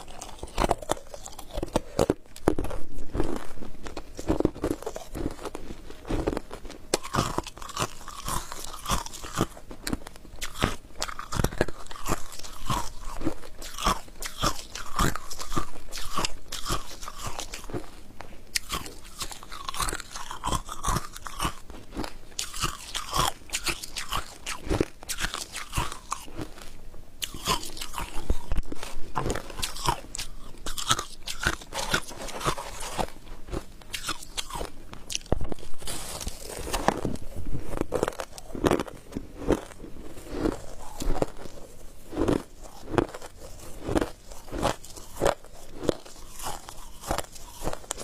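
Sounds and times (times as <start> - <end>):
chewing crunchy ice: 0.0 - 48.0.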